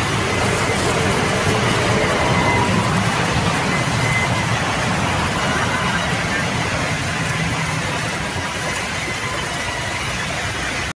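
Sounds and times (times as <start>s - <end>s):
sawmill machinery running: 0.0s - 10.9s.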